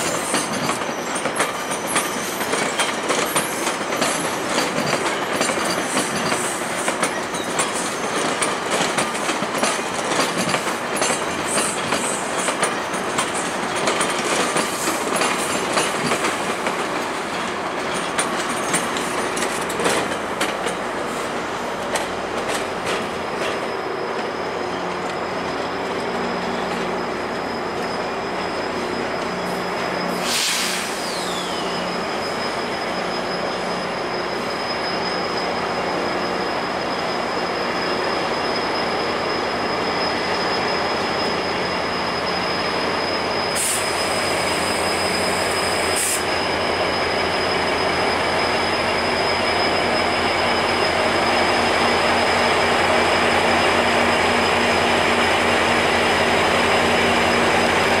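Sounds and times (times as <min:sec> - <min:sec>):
train wheels squealing: 0:00.0 - 0:58.0.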